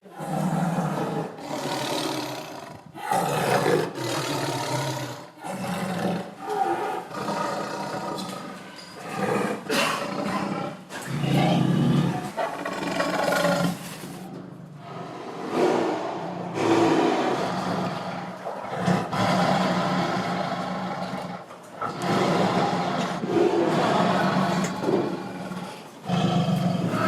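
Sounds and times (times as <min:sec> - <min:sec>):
tiger growling and roaring: 0:00.0 - 0:27.0.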